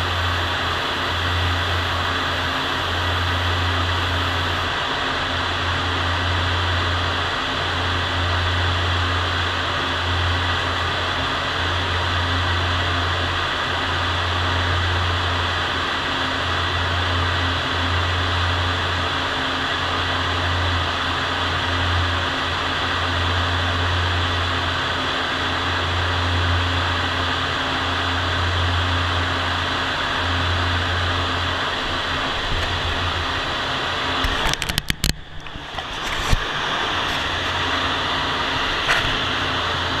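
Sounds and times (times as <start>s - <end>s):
ventilation fan running: 0.0s - 40.0s.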